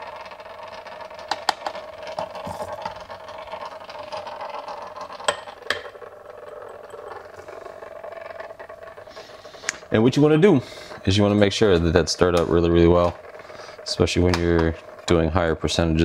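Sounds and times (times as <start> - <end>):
magnetic stirrer humming: 0.0 - 16.0.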